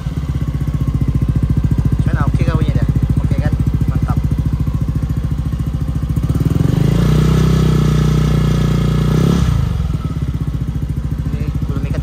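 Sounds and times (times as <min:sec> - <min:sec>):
scooter engine idling and revving: 0:00.0 - 0:12.0.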